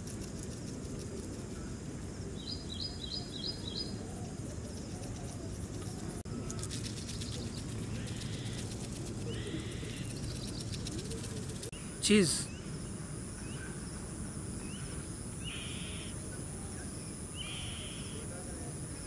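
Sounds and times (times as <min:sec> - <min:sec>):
low outdoor background noise: 0:00.0 - 0:19.0
small bird chirping: 0:00.2 - 0:13.9, 0:14.6 - 0:16.2, 0:16.9 - 0:18.3.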